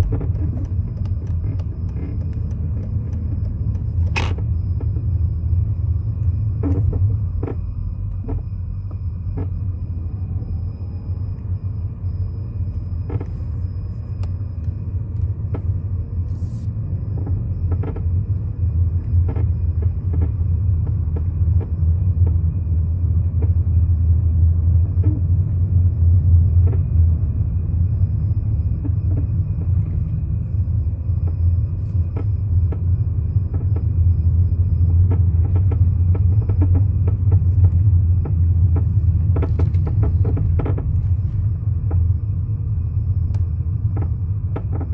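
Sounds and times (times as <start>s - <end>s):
car engine rumble: 0.0s - 44.9s.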